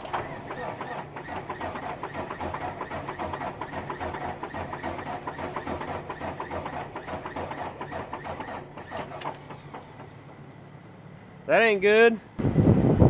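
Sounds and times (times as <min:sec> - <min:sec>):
diesel engine cranking without firing: 0:00.0 - 0:10.8.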